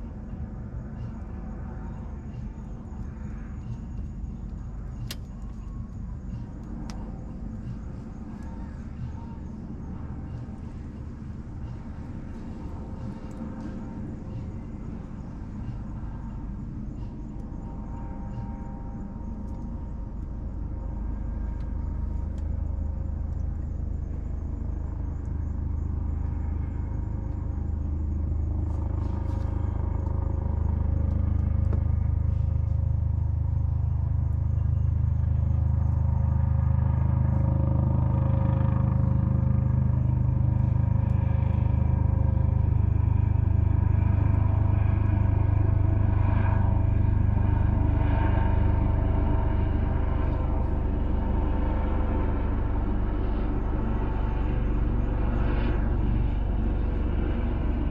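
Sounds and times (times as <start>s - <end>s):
low engine-like rumble: 0.0s - 57.9s.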